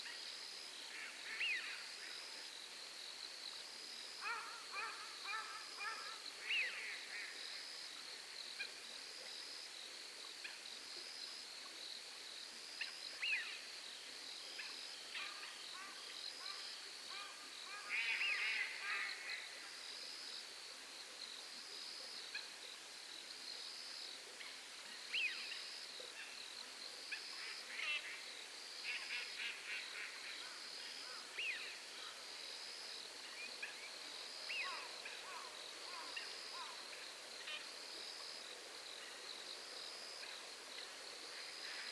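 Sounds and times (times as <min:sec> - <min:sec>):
night insects chirping: 0:00.0 - 0:41.9.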